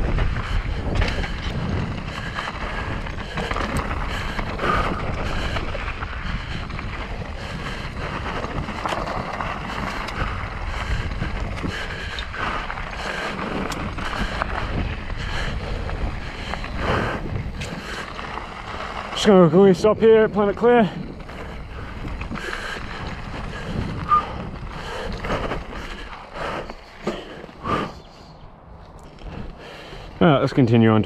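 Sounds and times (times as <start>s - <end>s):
bike tyres rolling on dirt: 0.0s - 31.0s
wind rushing over microphone: 0.0s - 31.0s.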